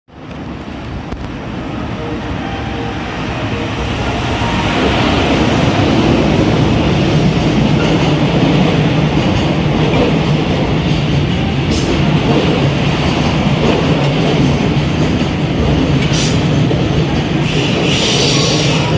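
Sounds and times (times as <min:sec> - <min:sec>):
freight train rumbling past: 0:00.1 - 0:18.9.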